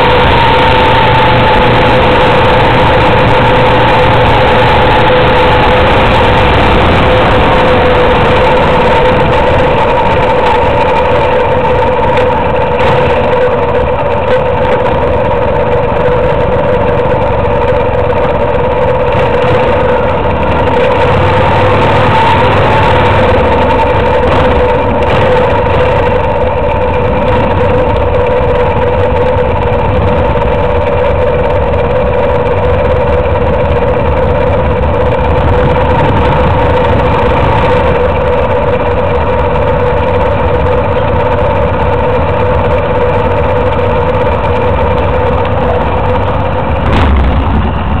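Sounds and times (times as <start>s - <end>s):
low rumble gust: 0.0s - 41.4s, 42.7s - 48.0s
motorcycle engine running: 0.0s - 48.0s
steady whine: 0.0s - 48.0s.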